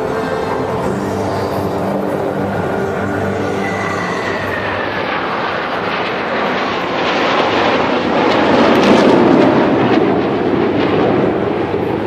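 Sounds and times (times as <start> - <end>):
jet engines flying overhead: 0.0 - 12.0.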